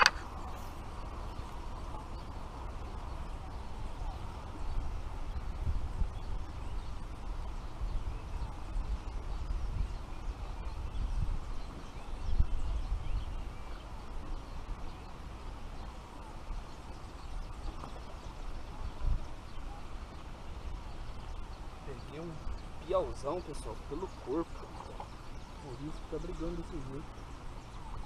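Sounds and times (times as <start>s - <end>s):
bird chirps: 0.0s - 28.0s
wind buffeting microphone: 0.0s - 28.0s.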